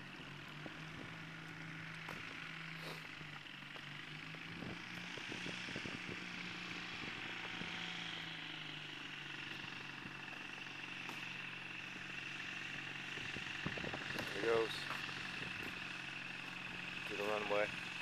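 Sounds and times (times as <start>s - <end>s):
distant light aircraft engine: 0.0s - 18.0s.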